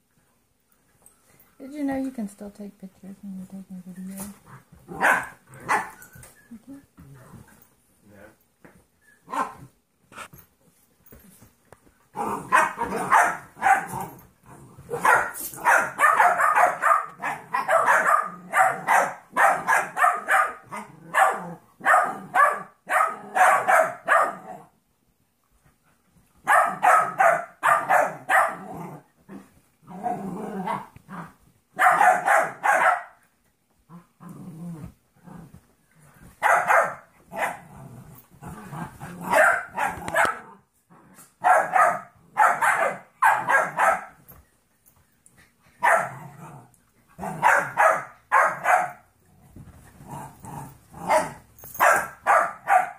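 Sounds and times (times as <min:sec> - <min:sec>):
dogs barking and growling: 0:04.2 - 0:07.7, 0:09.2 - 0:10.5, 0:11.1 - 0:24.8, 0:26.4 - 0:44.3, 0:45.3 - 0:52.9.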